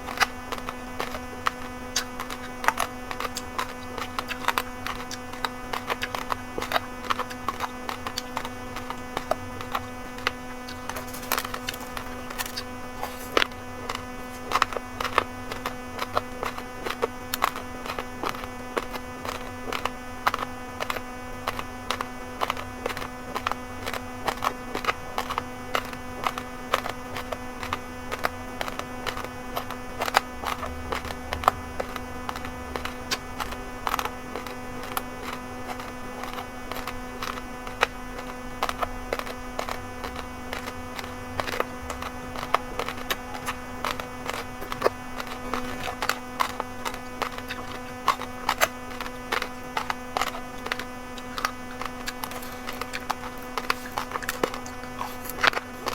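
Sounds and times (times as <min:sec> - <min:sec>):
electrical hum: 0:00.0 - 0:55.9
rice crunched between teeth: 0:00.0 - 0:55.9.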